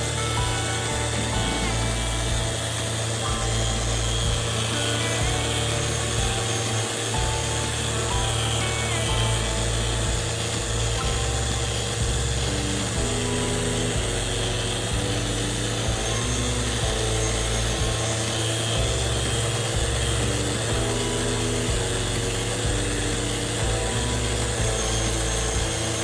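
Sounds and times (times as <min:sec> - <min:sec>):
power tool whirring: 0:00.0 - 0:26.0
simple melody of held notes: 0:00.0 - 0:26.0.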